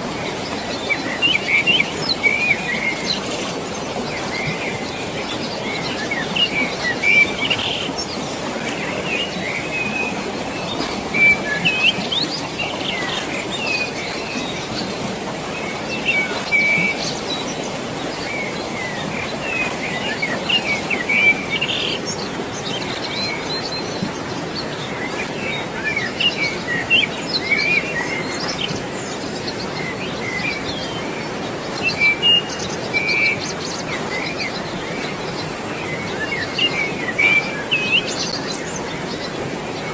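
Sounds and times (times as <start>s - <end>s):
flowing water: 0.0s - 39.9s
small birds chirping: 0.0s - 39.9s.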